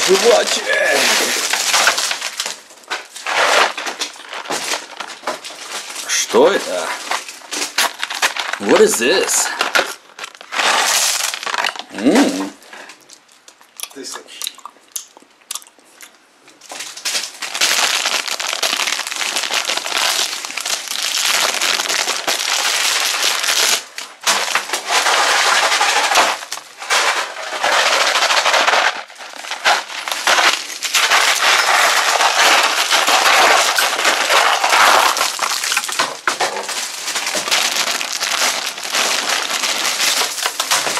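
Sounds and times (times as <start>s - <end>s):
candy pieces clattering: 0.0s - 12.6s, 16.9s - 40.9s
plastic candy wrappers crinkling: 0.0s - 40.9s.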